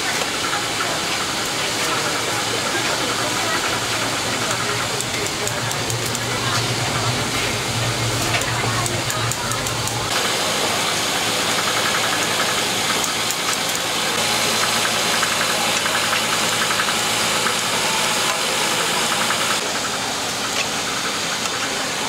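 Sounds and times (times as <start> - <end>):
small engine running with ticking: 0.0 - 22.0.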